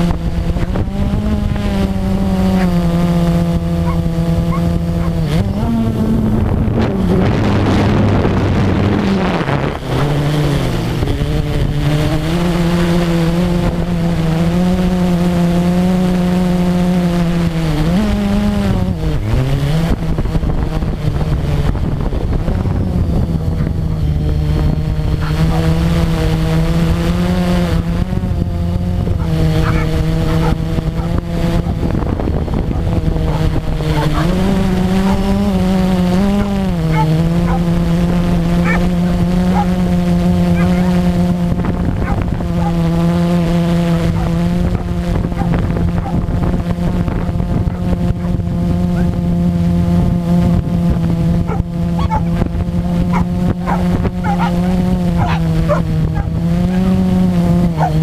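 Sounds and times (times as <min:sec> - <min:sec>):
quadcopter motors buzzing: 0:00.0 - 0:58.0.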